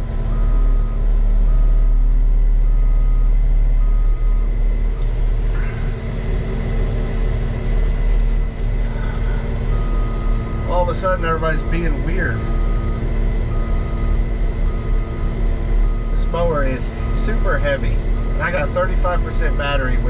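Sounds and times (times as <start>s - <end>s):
diesel engine running: 0.0s - 20.0s
backup alarm beeping: 0.3s - 2.0s, 2.6s - 5.9s, 8.6s - 20.0s.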